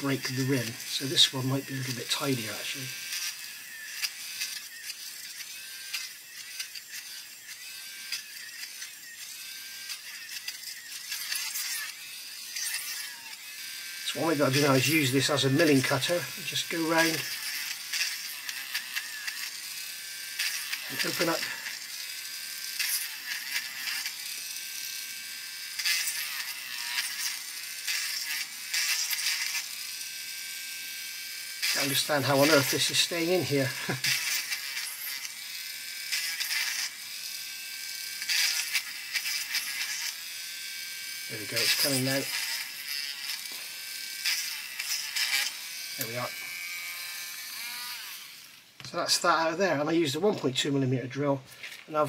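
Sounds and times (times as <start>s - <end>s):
rotary tool drill whining: 0.0s - 48.8s.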